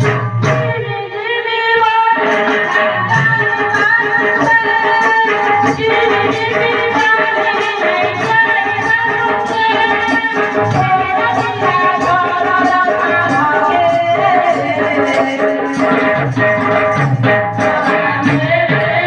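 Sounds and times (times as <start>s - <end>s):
steady percussion beat: 0.0s - 0.9s, 2.2s - 19.0s.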